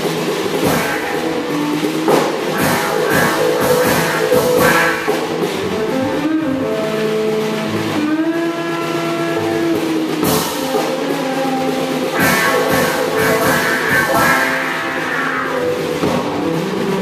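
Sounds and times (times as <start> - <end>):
music: 0.0 - 17.0.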